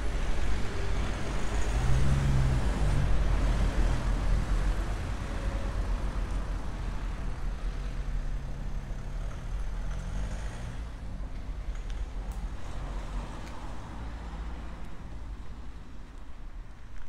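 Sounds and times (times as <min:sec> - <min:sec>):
vehicle passing on street: 0:00.0 - 0:17.0.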